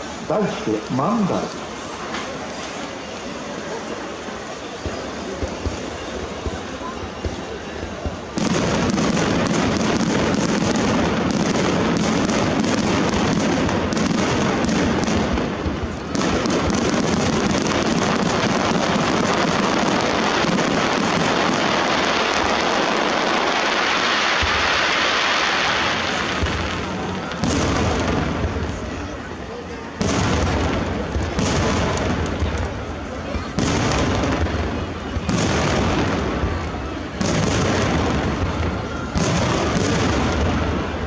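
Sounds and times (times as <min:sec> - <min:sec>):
fireworks bangs and crackling: 0:00.0 - 0:41.0
hissing crackle of firework stars: 0:00.0 - 0:41.0.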